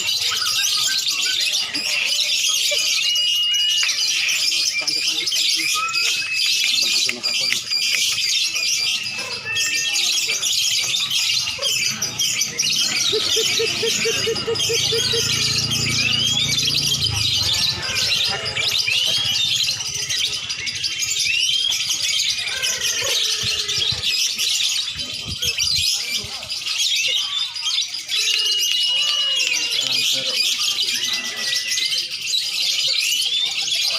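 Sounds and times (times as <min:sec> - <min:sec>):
birds chirping and whistling: 0:00.0 - 0:33.9.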